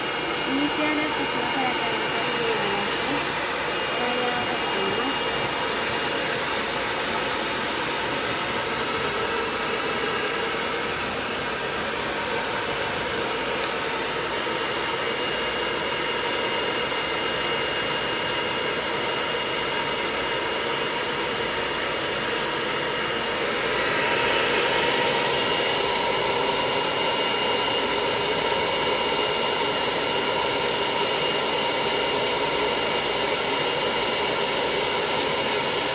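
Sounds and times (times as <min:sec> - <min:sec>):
hair dryer blowing: 0:00.0 - 0:35.9.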